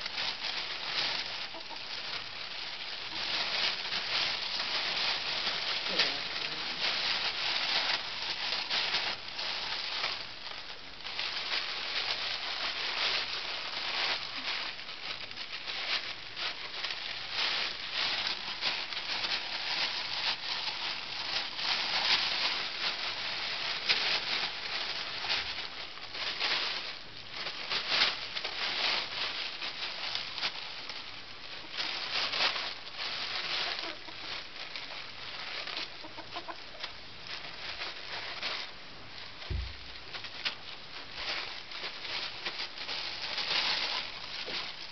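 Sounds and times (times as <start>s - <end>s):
plastic bag rustling and crinkling: 0.0s - 44.9s.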